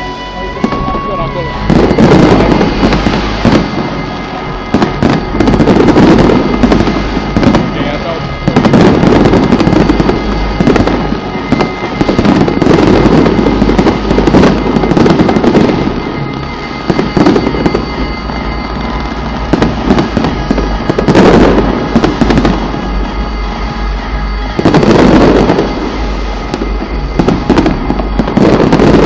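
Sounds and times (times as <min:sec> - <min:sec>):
fireworks bangs and crackling: 0:00.0 - 0:29.0
low rumble: 0:00.0 - 0:29.0.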